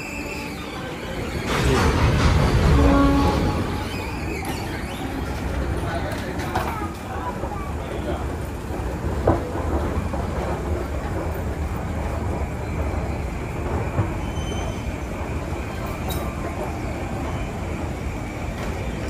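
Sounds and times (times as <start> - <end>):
train rumble and clatter: 0.0 - 19.0.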